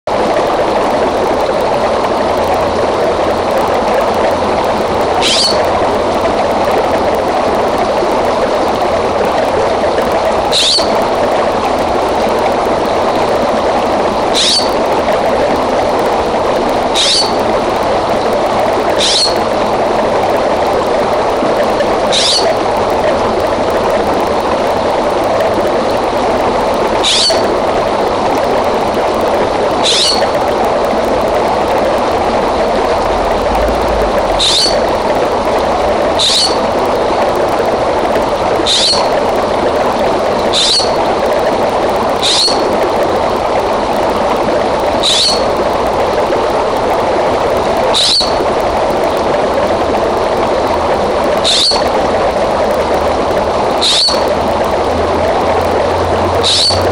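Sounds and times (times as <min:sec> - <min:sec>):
creek running: 0:00.1 - 0:56.9.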